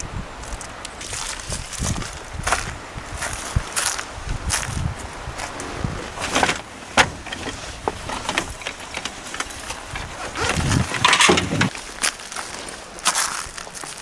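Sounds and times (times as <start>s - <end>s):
footsteps crunching on gravel: 0.4s - 14.0s.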